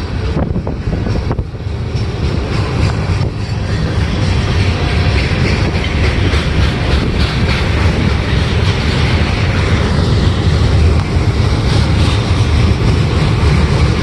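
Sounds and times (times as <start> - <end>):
clickety-clack over rail joints: 0.0 - 14.0
train wheels rumbling on rails: 0.0 - 14.0.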